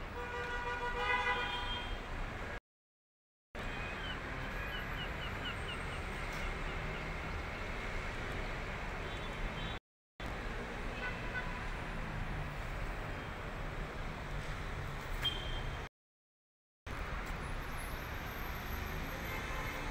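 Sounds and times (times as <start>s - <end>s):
city street traffic: 0.0s - 2.6s, 3.6s - 15.9s, 16.9s - 19.9s.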